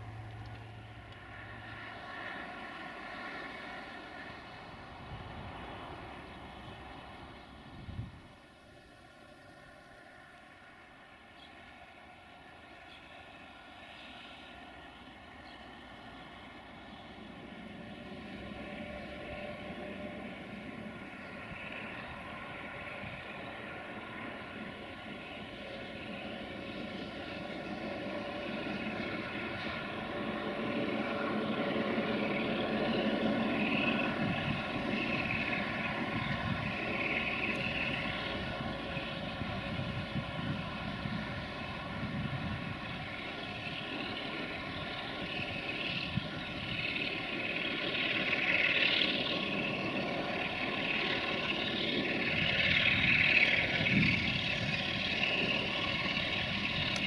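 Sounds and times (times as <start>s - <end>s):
locomotive diesel engine running: 0.0s - 57.0s.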